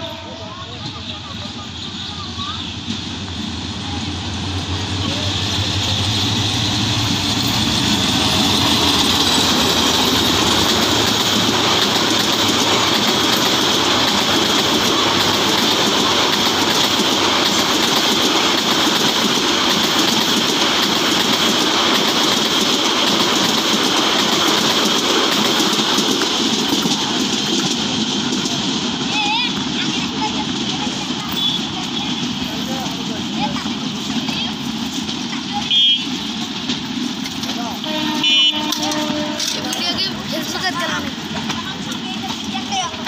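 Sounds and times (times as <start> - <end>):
locomotive engine passing: 0.0 - 43.0
train wheels clattering on rails: 0.1 - 43.0.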